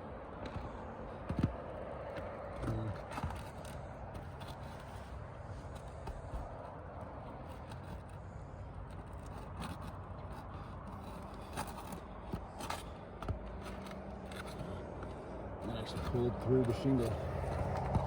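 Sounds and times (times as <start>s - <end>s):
steady background noise: 0.0s - 18.0s
pry tool scraping shingles: 0.2s - 18.0s.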